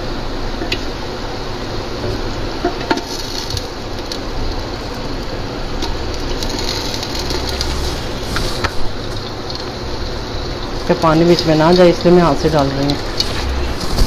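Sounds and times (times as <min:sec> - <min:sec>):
chicken sizzling in hot fat: 0:00.0 - 0:14.0.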